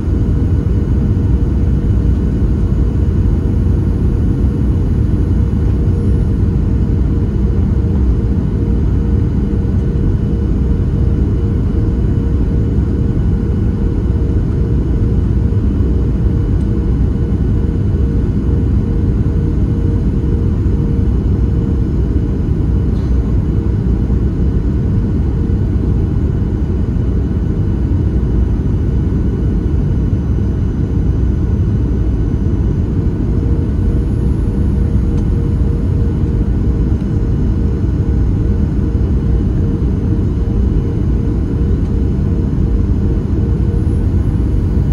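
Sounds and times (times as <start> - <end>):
airplane cabin rumble: 0.0 - 44.9
faint steady hum: 0.0 - 44.9.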